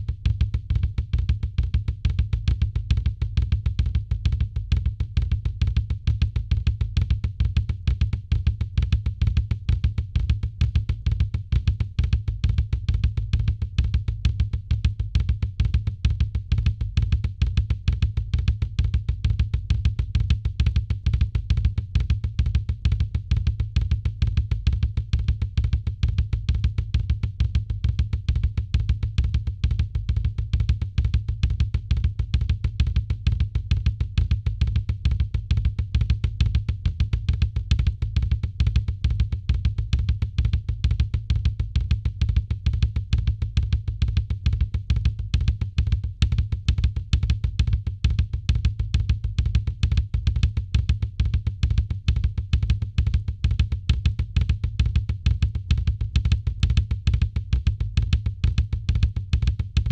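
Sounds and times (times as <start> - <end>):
bass drum: 0.0 - 59.9
fast drum kit rudiment: 0.0 - 59.9.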